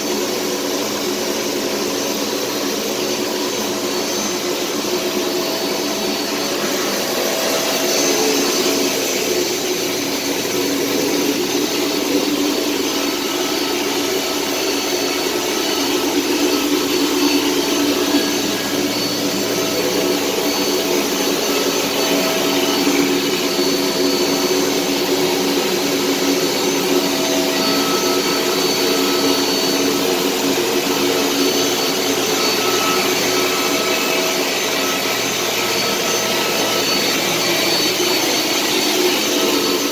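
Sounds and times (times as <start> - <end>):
faint steady tones: 0.0 - 39.9
loud mechanical whir: 0.0 - 39.9.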